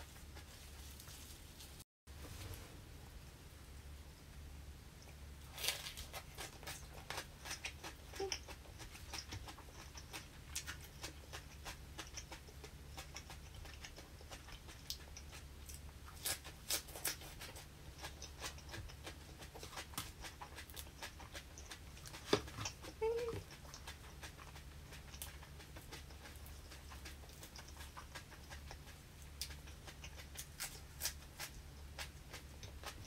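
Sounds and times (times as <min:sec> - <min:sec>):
faint low hum: 0:00.0 - 0:33.0
crunchy chewing: 0:05.0 - 0:33.0.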